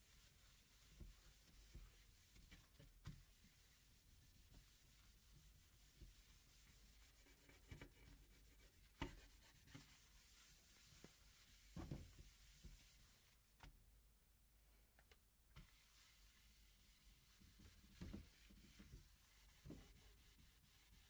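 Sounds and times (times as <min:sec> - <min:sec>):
tissue rubbing on tabletop: 0:00.0 - 0:13.5, 0:15.6 - 0:21.0.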